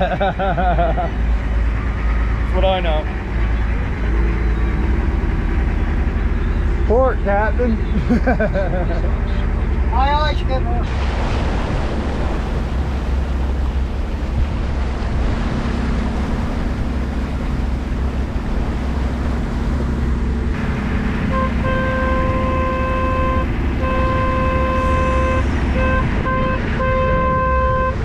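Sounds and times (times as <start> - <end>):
boat engine running: 0.0 - 28.0
water rushing: 0.0 - 28.0
wind: 0.0 - 28.0.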